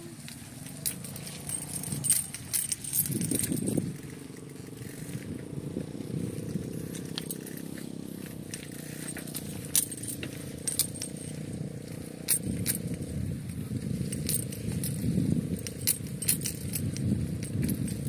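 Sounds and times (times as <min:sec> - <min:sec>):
light clicks and rattles: 0:00.0 - 0:18.0.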